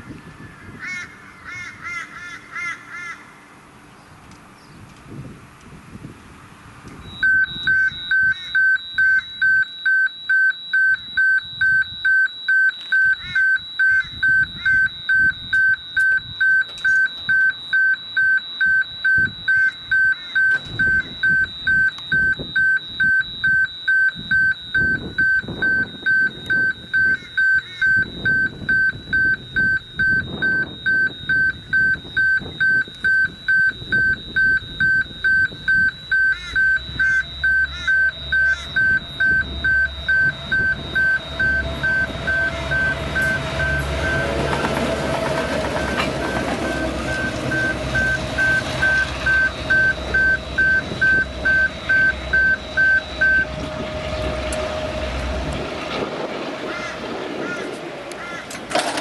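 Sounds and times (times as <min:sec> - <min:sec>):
diesel locomotive engine: 0:00.0 - 0:59.0
level crossing warning bell: 0:07.0 - 0:56.6.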